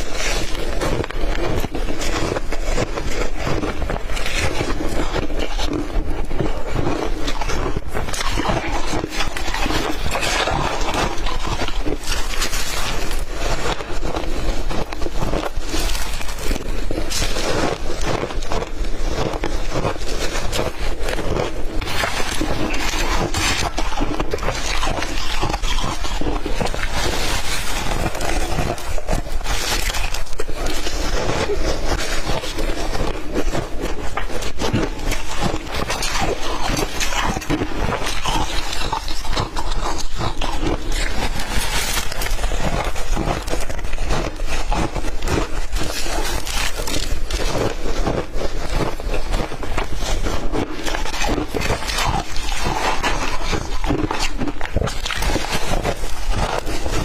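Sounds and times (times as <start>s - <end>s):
ice being chewed crunching: 0.0s - 57.0s.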